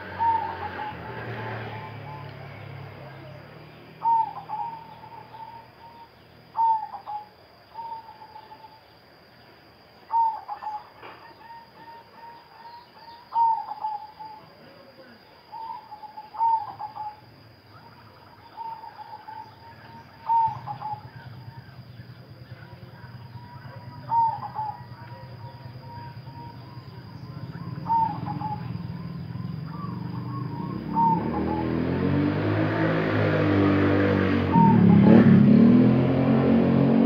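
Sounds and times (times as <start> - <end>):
dove cooing: 0.0 - 8.8, 10.1 - 32.0, 34.4 - 35.4.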